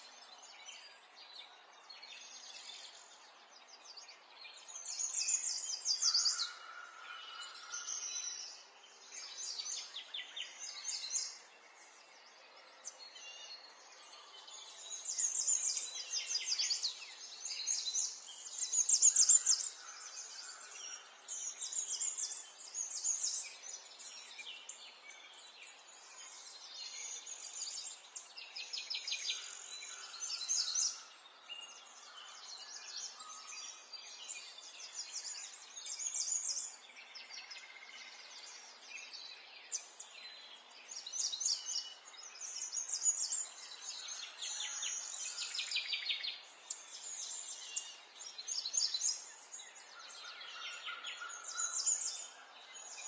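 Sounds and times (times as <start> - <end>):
birds singing and chirping: 0.0 - 53.0.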